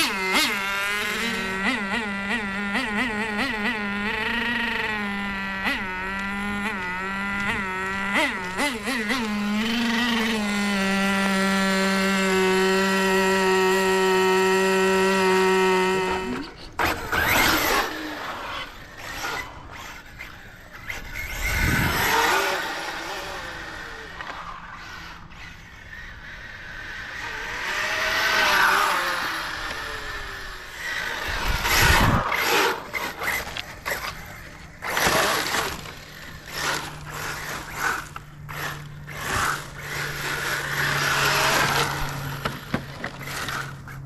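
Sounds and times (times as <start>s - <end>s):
small nitro engine revving: 0.0s - 44.0s.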